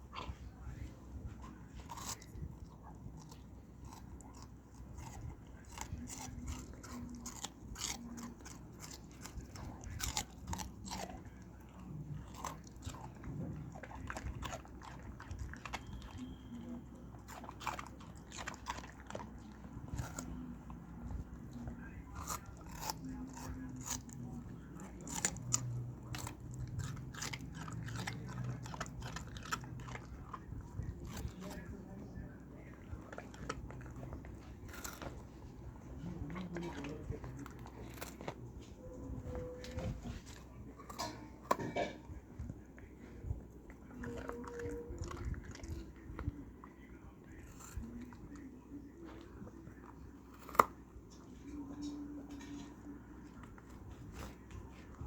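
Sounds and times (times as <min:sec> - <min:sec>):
dog chewing with crunches: 0:00.0 - 0:55.0.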